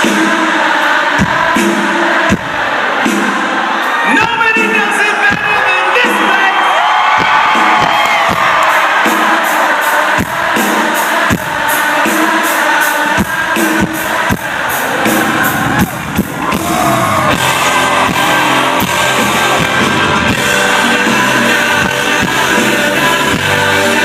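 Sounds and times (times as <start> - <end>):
person singing lead vocal: 0.0 - 6.6, 8.3 - 24.0
drums: 0.0 - 24.0
pop-rock band playing: 0.0 - 24.0.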